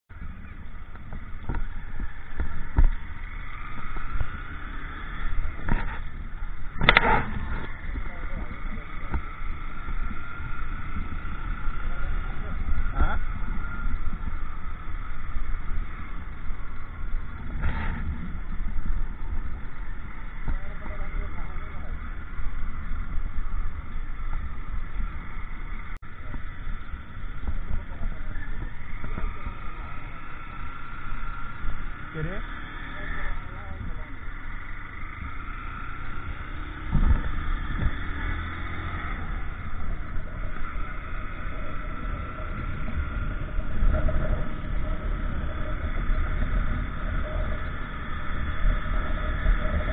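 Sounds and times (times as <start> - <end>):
microphone wind rumble: 0.1 - 49.9
motorcycle engine: 0.1 - 49.9.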